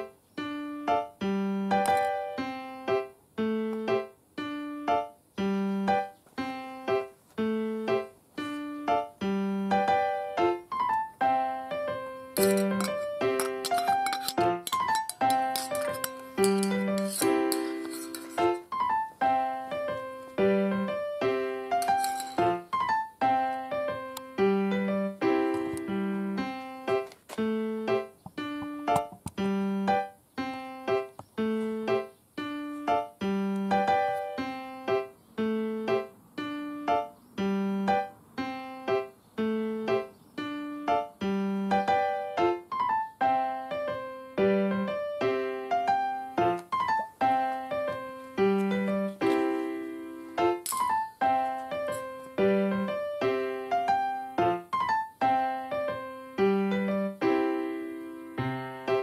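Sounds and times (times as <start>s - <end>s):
keyboard melody: 0.0s - 59.0s.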